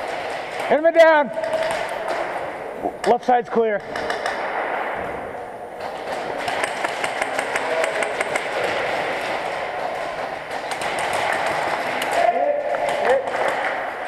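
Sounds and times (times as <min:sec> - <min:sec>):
airsoft guns firing: 0:00.0 - 0:14.0
pellets striking walls: 0:00.0 - 0:14.0.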